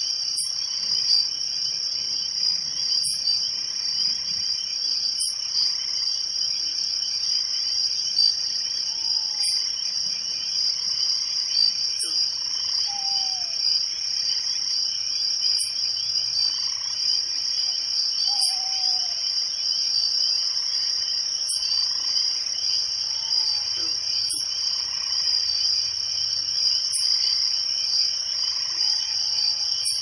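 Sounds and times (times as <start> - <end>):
crickets chirping: 0.0 - 30.0
frogs croaking: 0.0 - 30.0.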